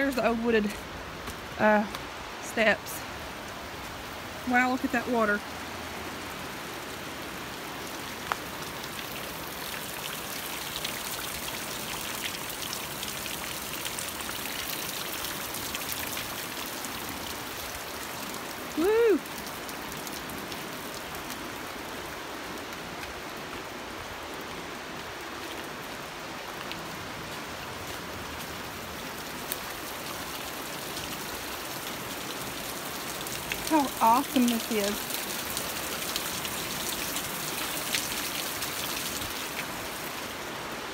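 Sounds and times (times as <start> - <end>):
rushing flood water: 0.0 - 40.9.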